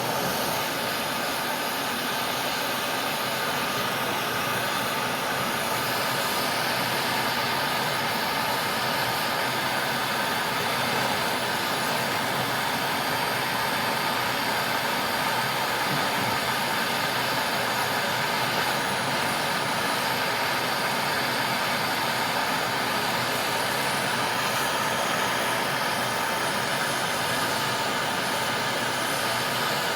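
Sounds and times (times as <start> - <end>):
torch flame roaring hiss: 0.0 - 29.9.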